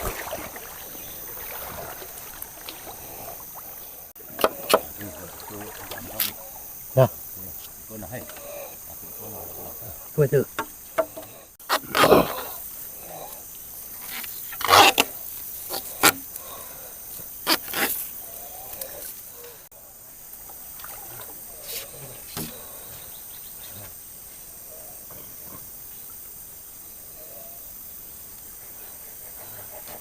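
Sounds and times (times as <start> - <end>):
forest insects droning: 0.0 - 30.0.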